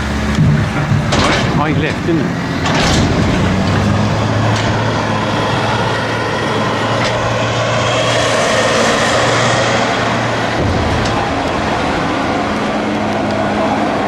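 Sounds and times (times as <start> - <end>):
steady rushing noise: 0.0 - 14.0
vehicle engine humming: 0.0 - 14.0.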